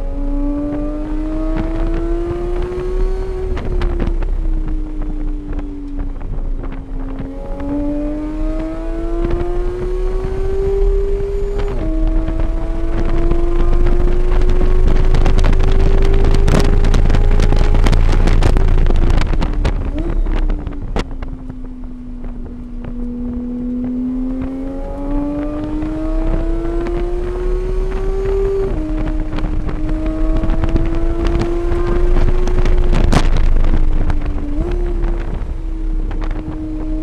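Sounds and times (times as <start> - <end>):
engine upshift: 0.0 - 37.0
race car engine revving: 0.0 - 37.0
wind buffeting microphone: 0.0 - 37.0.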